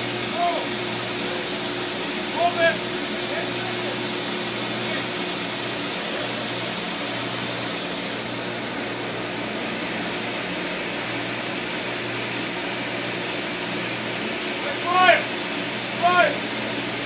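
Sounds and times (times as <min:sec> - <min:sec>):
steam turbine rushing noise: 0:00.0 - 0:17.0.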